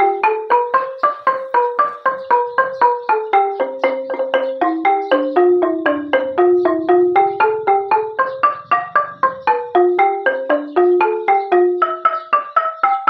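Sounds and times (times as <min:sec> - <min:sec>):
xylophone melody with padded mallets: 0:00.0 - 0:13.0.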